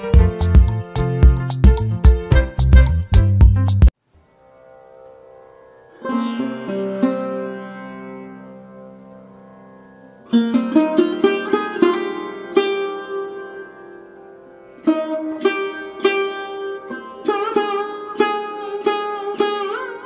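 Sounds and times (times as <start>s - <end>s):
plucked string instrument melody: 0.0s - 20.0s.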